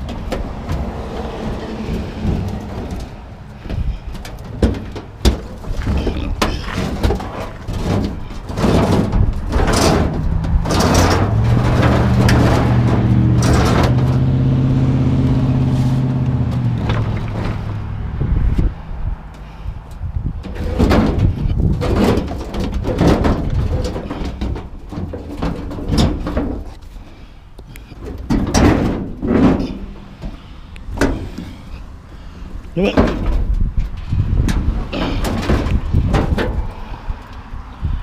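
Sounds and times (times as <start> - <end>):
scrap metal knocks and clanks: 0.0 - 14.7, 15.6 - 18.6, 20.4 - 27.2, 27.8 - 37.0
vehicle engine hum: 0.0 - 38.0.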